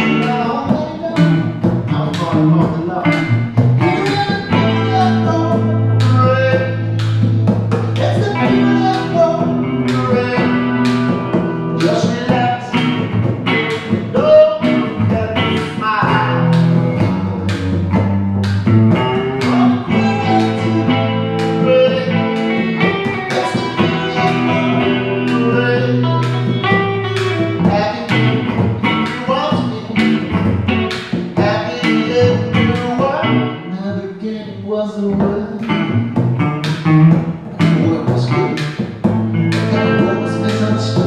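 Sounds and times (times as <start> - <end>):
acoustic guitar: 0.0 - 41.0
electric guitar through amplifier: 0.0 - 41.0.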